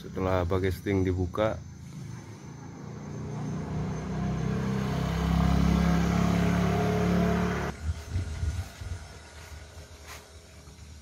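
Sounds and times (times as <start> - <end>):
vehicle engine running: 1.8 - 11.0.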